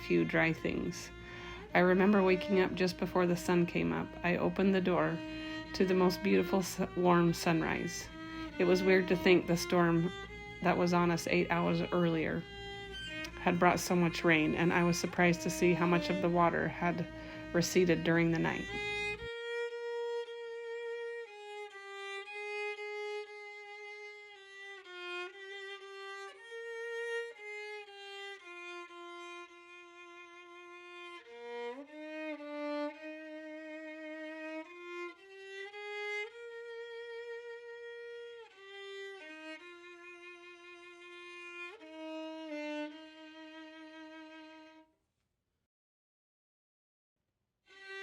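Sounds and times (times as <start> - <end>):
solo violin slow melody: 0.0 - 44.9, 47.7 - 48.0.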